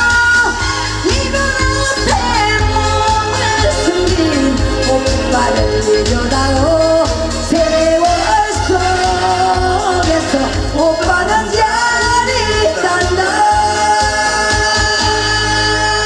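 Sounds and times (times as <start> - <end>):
amplified backing music: 0.0 - 16.0
woman singing into microphone: 0.0 - 16.0.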